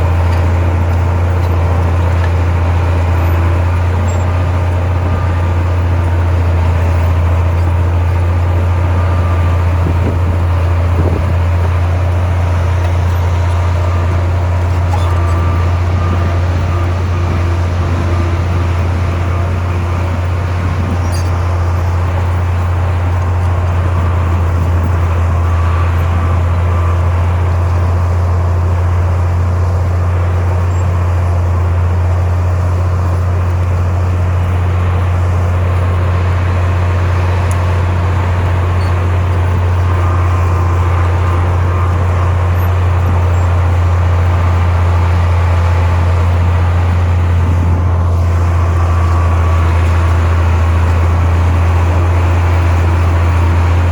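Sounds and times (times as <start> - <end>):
diesel machinery engine running: 0.0 - 53.9.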